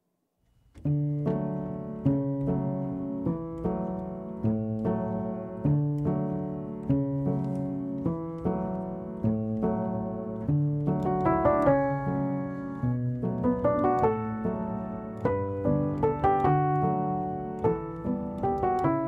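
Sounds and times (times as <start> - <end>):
piano chords: 0.8 - 19.0.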